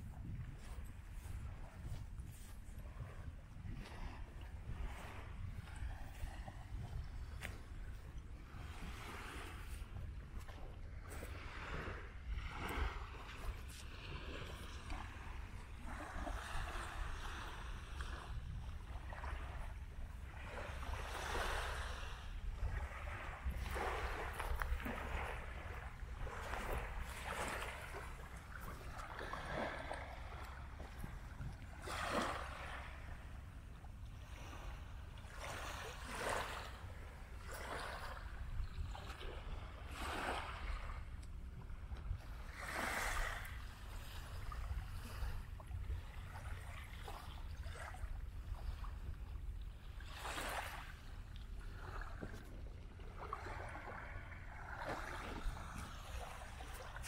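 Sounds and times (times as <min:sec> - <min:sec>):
small waves washing onto sand: 0:00.0 - 0:57.0
wind rumble on microphone: 0:00.0 - 0:57.0.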